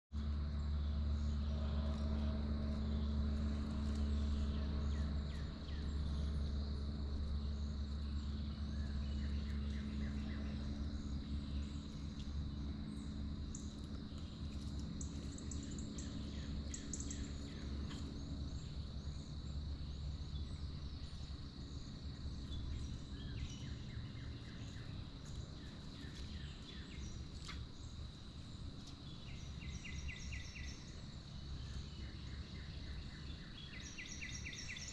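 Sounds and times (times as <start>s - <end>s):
low rumble: 0.2s - 33.9s
high-pitched hum: 0.2s - 34.9s
birds chirping: 0.6s - 34.9s.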